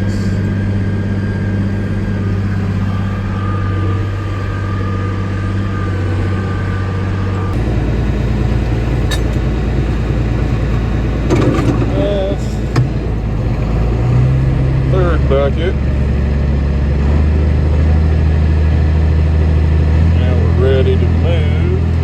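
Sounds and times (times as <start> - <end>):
thin whine: 0.0 - 22.0
tractor diesel engine running: 0.0 - 22.0.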